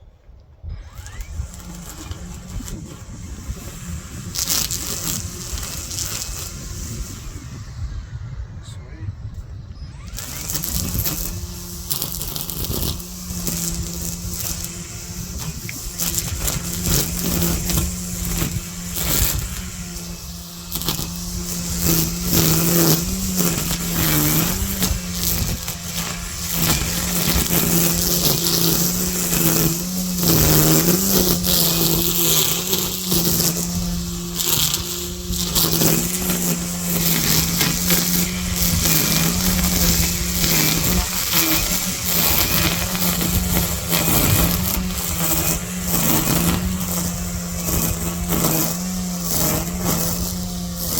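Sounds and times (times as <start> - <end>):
string trimmer engine running: 0.6 - 50.9.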